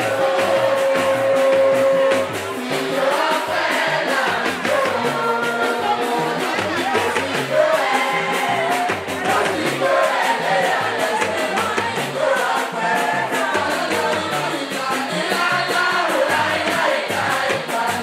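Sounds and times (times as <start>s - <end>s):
percussion beat: 0.0s - 18.0s
person singing: 0.0s - 18.0s.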